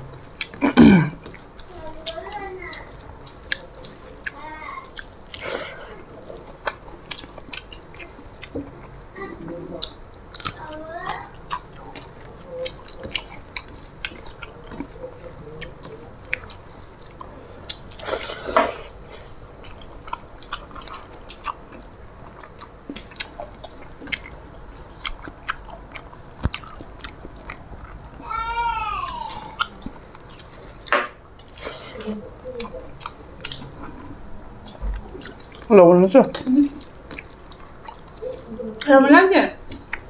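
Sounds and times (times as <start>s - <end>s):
chewing and mouth clicks: 0.0s - 9.0s, 9.7s - 28.2s, 29.0s - 39.0s, 39.6s - 40.0s.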